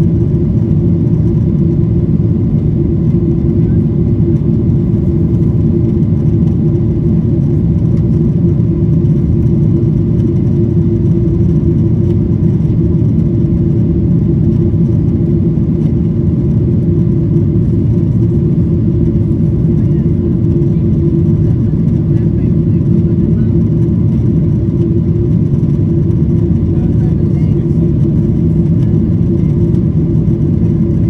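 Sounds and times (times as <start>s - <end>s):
aircraft engines droning: 0.0s - 31.0s.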